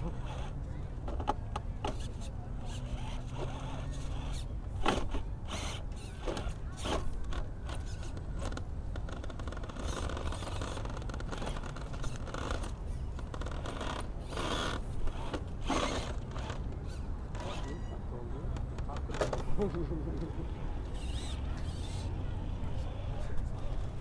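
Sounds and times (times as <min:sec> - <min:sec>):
toy truck motor whirring and grinding: 0:00.0 - 0:17.9, 0:20.4 - 0:24.0.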